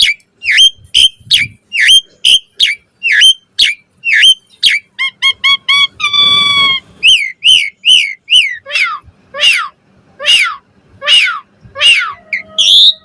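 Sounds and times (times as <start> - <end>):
starling singing whistled song: 0.0 - 13.0.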